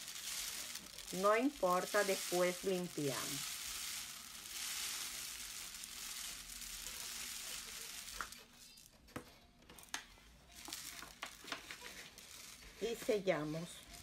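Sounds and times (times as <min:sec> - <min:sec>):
rice pouring into a tube: 0:00.0 - 0:09.0, 0:10.3 - 0:14.0
paper crinkling: 0:00.0 - 0:09.1, 0:09.8 - 0:14.0.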